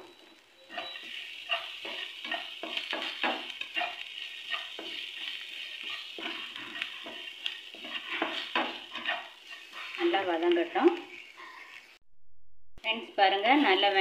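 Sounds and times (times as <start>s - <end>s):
vegetables sizzling in oil: 0.0s - 12.0s, 12.8s - 14.0s
spatula scraping a pan: 0.6s - 12.0s.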